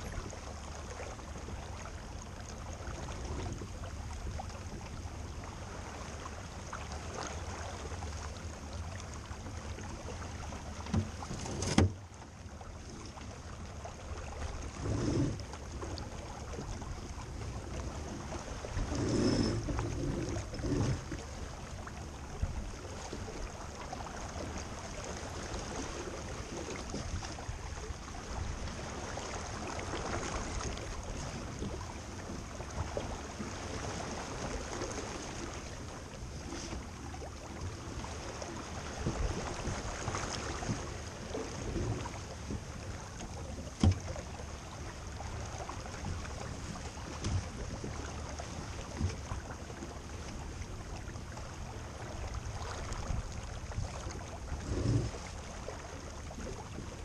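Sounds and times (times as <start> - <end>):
rushing water: 0.0 - 57.0
wind: 0.0 - 57.0.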